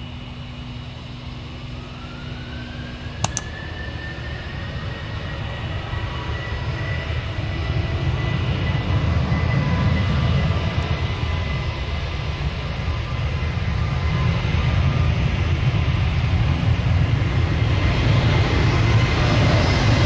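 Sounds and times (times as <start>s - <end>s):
jet engine high whine: 0.0s - 20.0s
jet engine low rumble: 0.0s - 20.0s.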